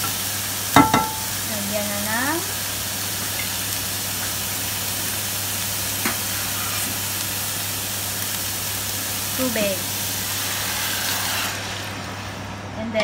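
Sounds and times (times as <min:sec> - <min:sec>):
meat sizzling in a wok: 0:00.0 - 0:12.8.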